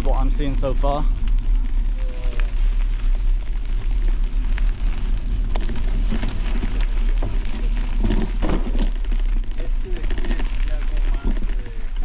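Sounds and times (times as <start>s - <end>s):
bicycle clicking and rattling: 0.0s - 12.0s.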